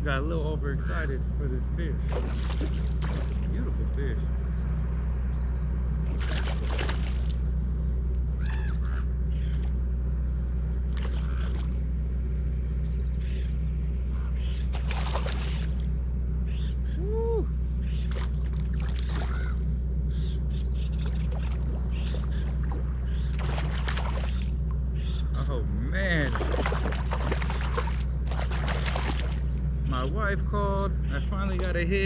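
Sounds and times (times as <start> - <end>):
low wind rumble on microphone: 0.0 - 32.0.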